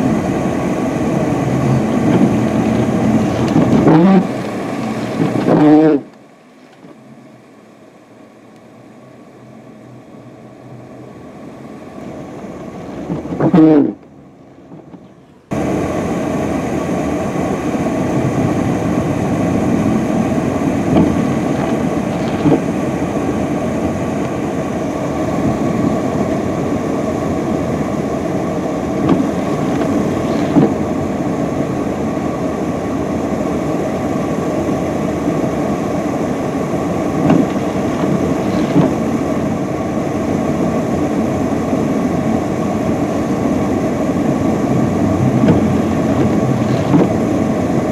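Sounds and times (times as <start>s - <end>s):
truck engine droning under load: 0.0s - 47.9s.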